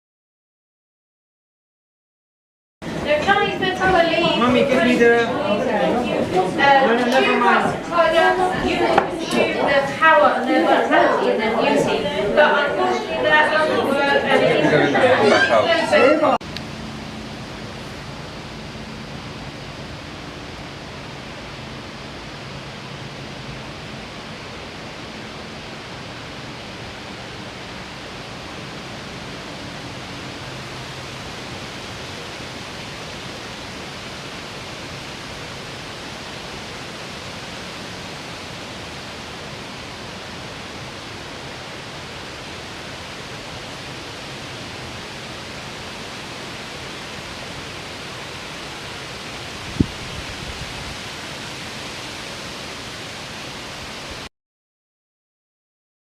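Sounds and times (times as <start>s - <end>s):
rushing flowing water: 2.8s - 54.3s.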